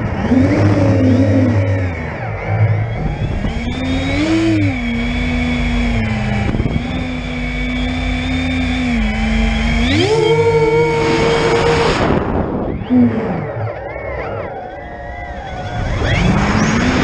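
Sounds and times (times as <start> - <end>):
wind rumble on microphone: 0.0 - 8.6, 10.0 - 17.0
drone motors humming: 0.0 - 17.0.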